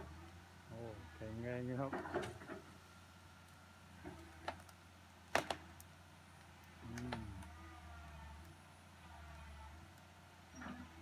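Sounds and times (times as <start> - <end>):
distant excavator engine running: 0.0 - 11.0.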